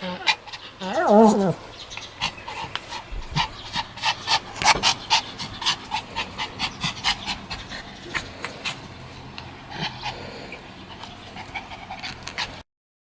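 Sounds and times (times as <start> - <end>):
dog panting quickly: 0.3 - 12.6.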